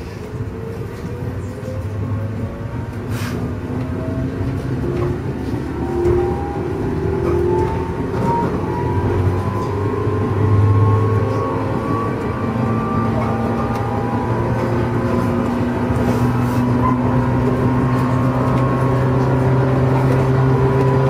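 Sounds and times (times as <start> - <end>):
train wheels rumbling on rails: 0.0 - 21.0
traction motor whine rising: 3.9 - 21.0.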